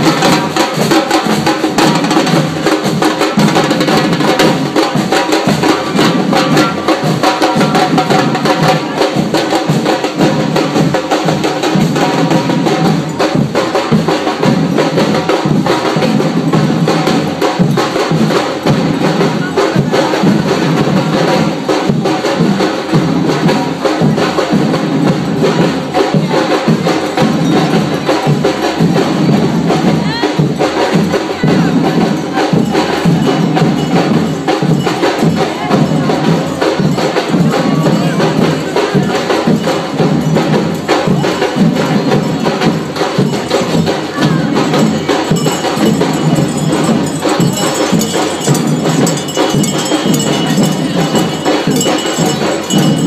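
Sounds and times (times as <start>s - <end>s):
drum band playing: 0.0s - 53.0s.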